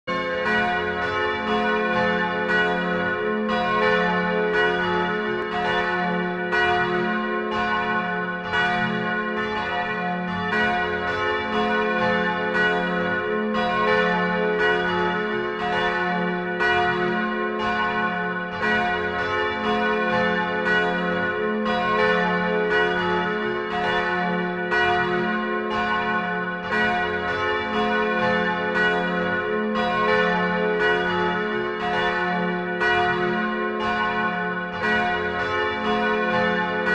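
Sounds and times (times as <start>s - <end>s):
church bells pealing: 0.1s - 36.9s.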